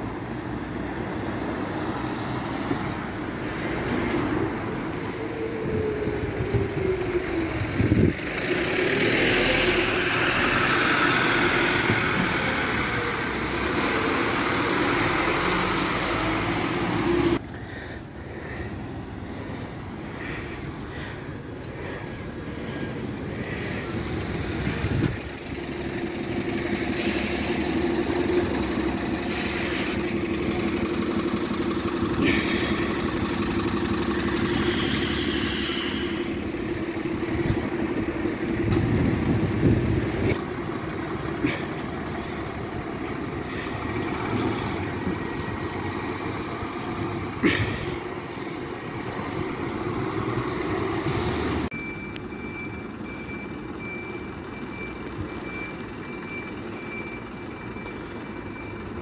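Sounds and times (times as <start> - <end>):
bus engine droning: 0.0 - 59.0
distant bus engine: 0.0 - 59.0.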